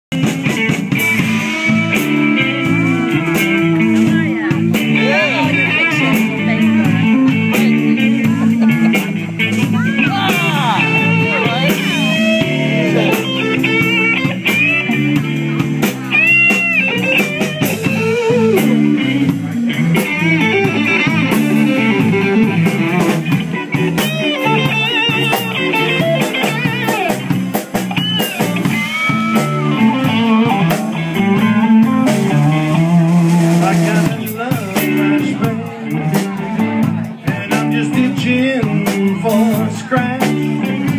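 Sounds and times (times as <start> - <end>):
bass guitar: 0.0 - 40.9
drum kit: 0.1 - 40.9
electric guitar with bent notes: 0.1 - 40.9.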